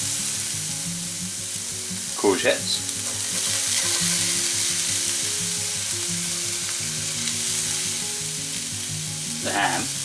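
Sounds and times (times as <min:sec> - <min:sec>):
background music: 0:00.0 - 0:10.0
vegetables sizzling in a frying pan: 0:00.0 - 0:10.0.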